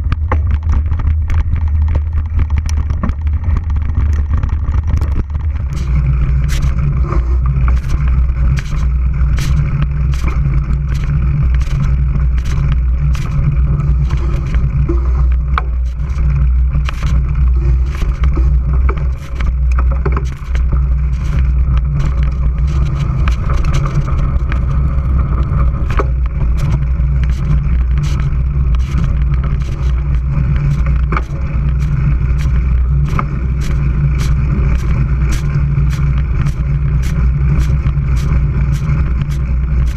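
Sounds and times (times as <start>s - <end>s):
bike knocks and rattles: 0.0s - 39.9s
bike tyre rumble: 0.0s - 39.9s.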